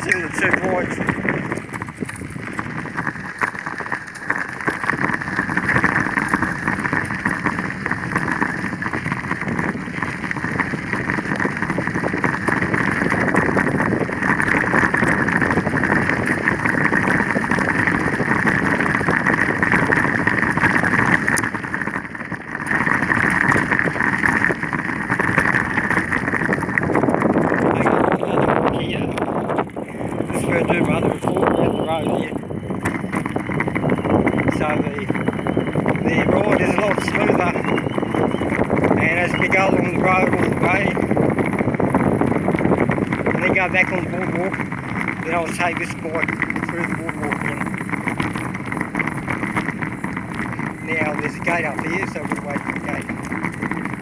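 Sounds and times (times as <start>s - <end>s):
wind noise on microphone: 0.0s - 54.0s.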